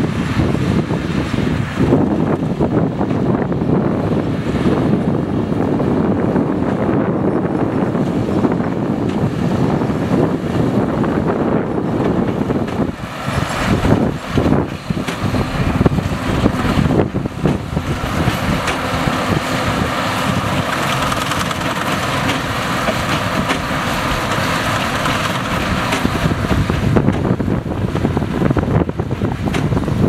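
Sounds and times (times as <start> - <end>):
baler machinery working straw: 0.0 - 30.0
tractor diesel engine under load: 0.0 - 30.0
wind buffeting microphone: 0.0 - 30.0.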